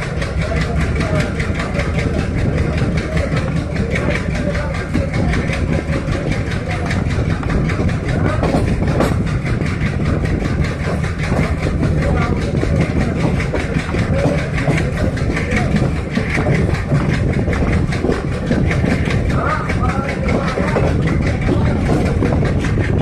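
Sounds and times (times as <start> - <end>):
diesel train engine rumbling: 0.0 - 23.0
wheels clattering on rails: 0.0 - 23.0.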